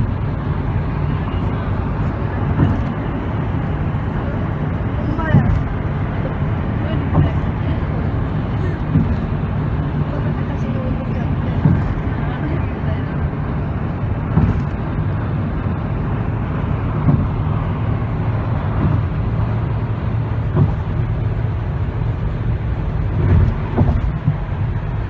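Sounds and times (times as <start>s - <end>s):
tyre and engine rumble: 0.0s - 25.0s
wind and road hiss: 0.0s - 25.0s.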